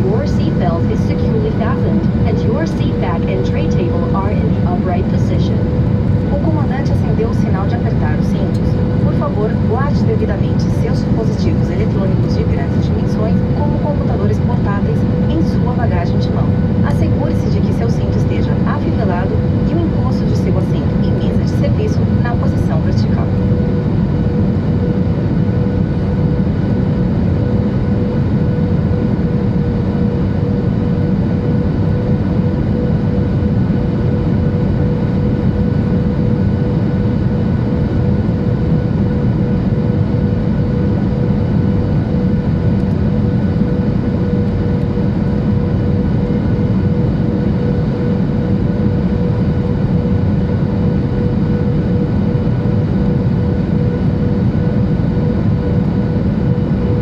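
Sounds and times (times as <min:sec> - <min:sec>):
airplane cabin rumble: 0:00.0 - 0:57.0
steady mid-pitched hum: 0:00.0 - 0:57.0.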